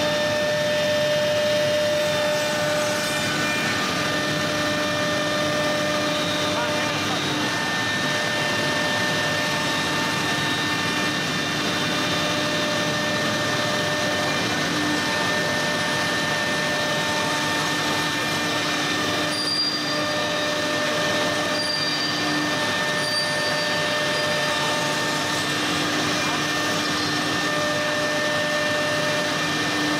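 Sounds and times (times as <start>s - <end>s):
router spindle motor whine: 0.0s - 29.9s.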